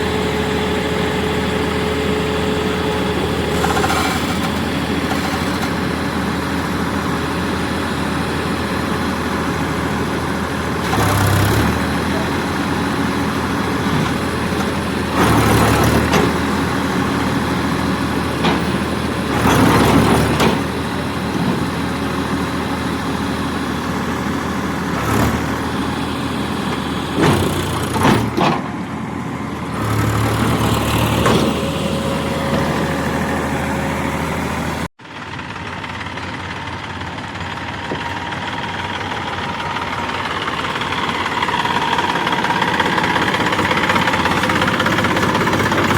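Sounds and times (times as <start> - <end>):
heavy diesel engine revving: 0.0 - 45.9.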